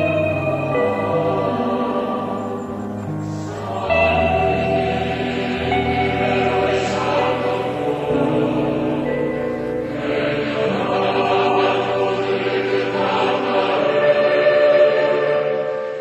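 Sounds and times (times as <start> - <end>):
choir-like voices over chords: 0.0 - 16.0.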